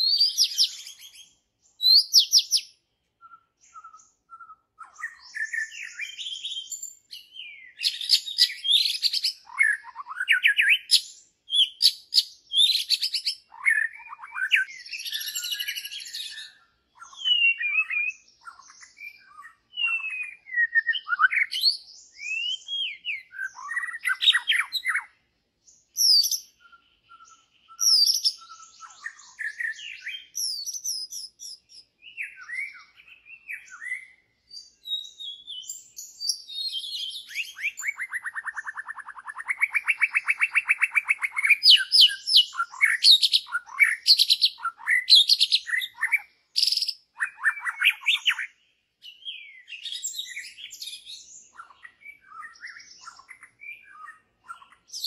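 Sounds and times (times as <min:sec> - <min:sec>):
bird singing whistles: 0:00.0 - 0:55.0.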